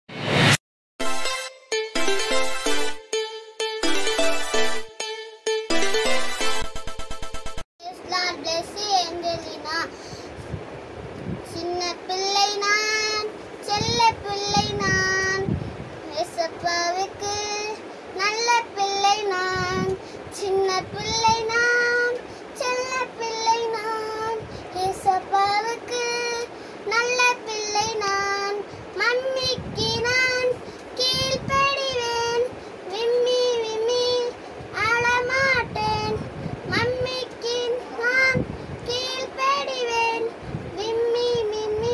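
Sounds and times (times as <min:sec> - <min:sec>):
girl singing: 0:05.0 - 0:05.7, 0:07.8 - 0:10.2, 0:11.4 - 0:41.9.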